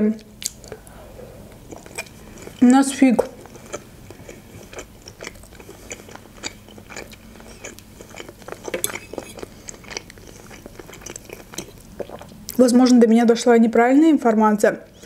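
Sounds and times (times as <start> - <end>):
close chewing and mouth sounds: 0.2 - 12.6.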